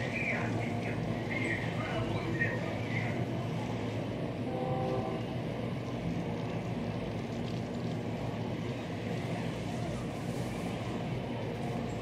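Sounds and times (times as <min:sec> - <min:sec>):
distant freight train rumbling: 0:00.0 - 0:12.0.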